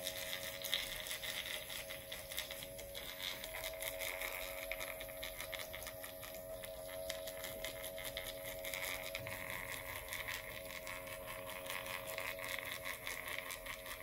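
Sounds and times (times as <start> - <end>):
device electrical hum: 0.0 - 14.0.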